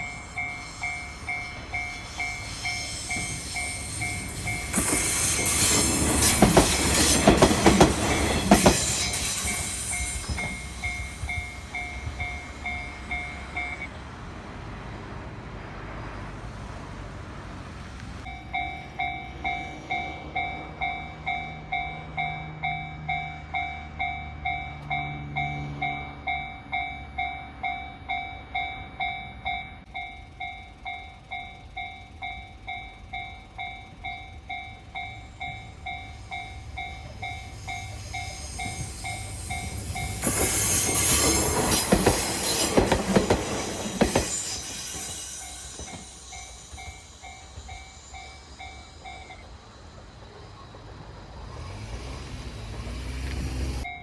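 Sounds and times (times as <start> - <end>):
level crossing warning bell: 0.0 - 14.0, 18.2 - 50.6
train rattling over crossing: 0.0 - 54.0.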